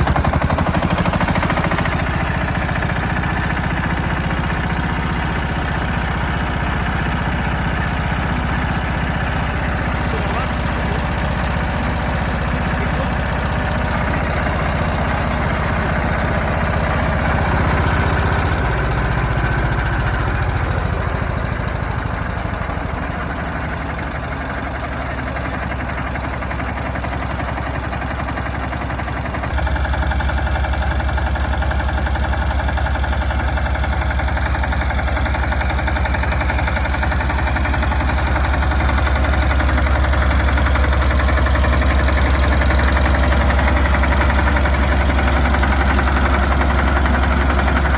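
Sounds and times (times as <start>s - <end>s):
diesel engine knocking: 0.0s - 47.9s.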